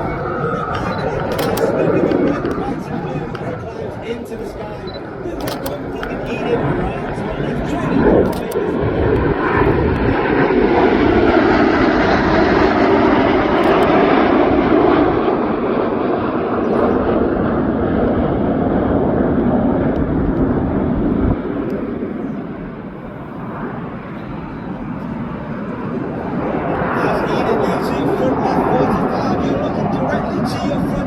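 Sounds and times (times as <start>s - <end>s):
falling jet whine: 0.0s - 31.0s
jets passing with loud rush: 0.0s - 31.0s.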